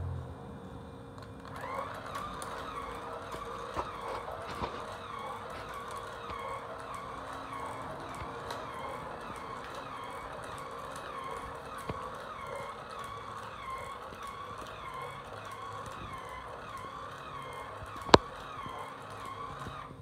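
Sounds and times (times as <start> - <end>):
toy legs ticking on tile: 1.4 - 20.0
toy motor whirring: 1.4 - 20.0.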